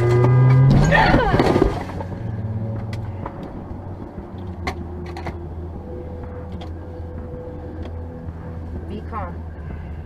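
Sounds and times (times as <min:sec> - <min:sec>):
vehicle idling hum: 0:00.9 - 0:10.0.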